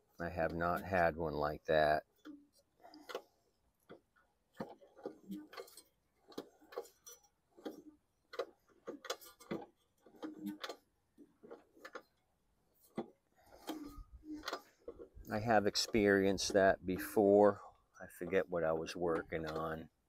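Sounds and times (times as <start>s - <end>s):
light clicks and knocks: 2.2s - 19.9s.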